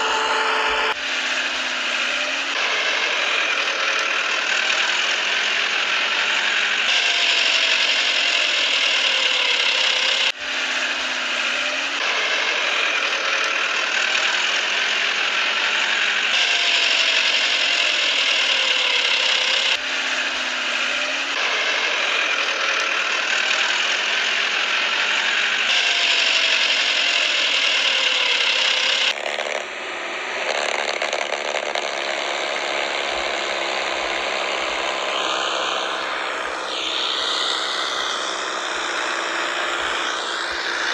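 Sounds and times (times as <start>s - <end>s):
toy motors and gearboxes whirring: 0.0s - 40.9s.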